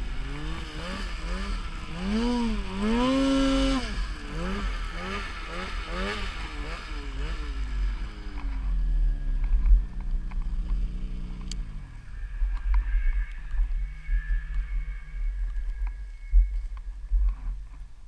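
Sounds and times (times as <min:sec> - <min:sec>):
snowmobile engine: 0:00.0 - 0:16.4.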